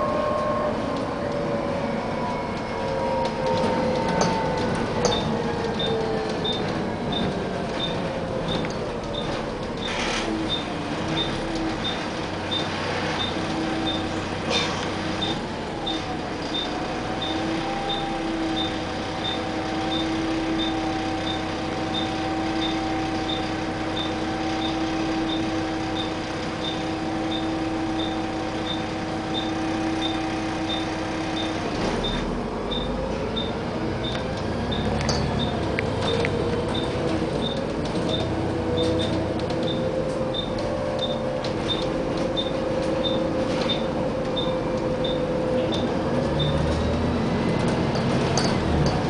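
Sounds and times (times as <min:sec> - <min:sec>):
bus engine idling: 0:00.0 - 0:49.0.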